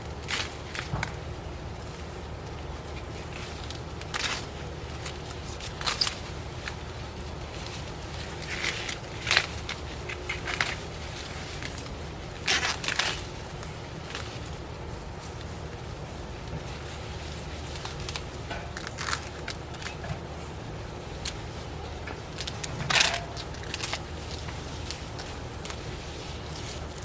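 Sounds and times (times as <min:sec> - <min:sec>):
corn plants rustling and crackling: 0:00.0 - 0:27.0.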